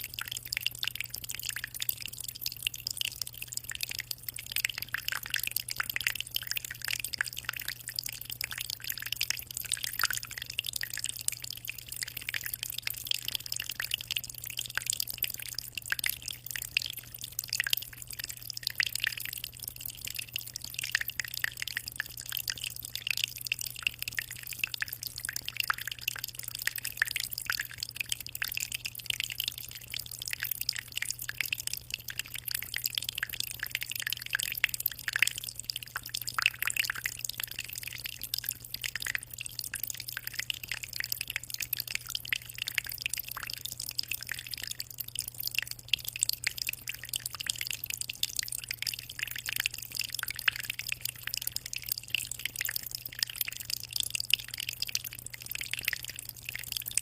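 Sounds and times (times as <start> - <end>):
aquarium water trickling: 0.0 - 57.0.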